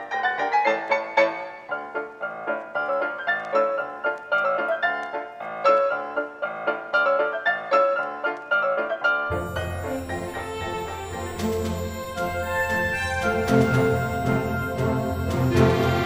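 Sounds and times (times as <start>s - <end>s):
bright piano tune: 0.0s - 16.0s.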